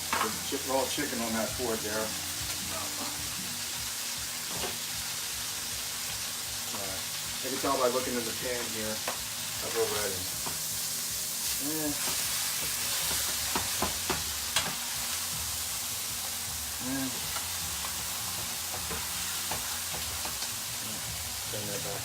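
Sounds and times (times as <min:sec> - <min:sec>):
chicken sizzling in a hot pan: 0:00.0 - 0:22.0.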